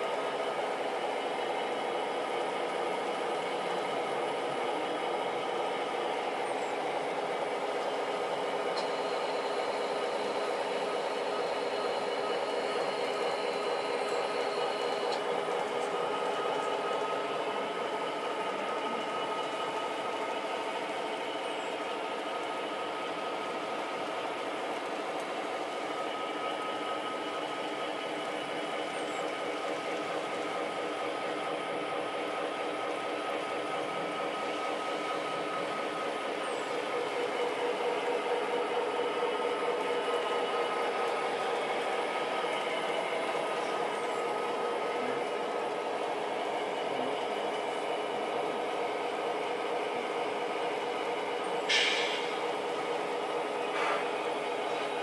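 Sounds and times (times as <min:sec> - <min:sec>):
model trains whirring on track: 0:00.0 - 0:55.0.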